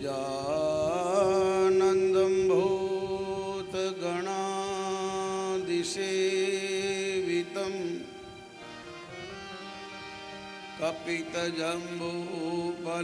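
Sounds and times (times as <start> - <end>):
devotional chant singing: 0.0 - 9.7, 10.3 - 13.0
steady held drone: 0.0 - 13.0.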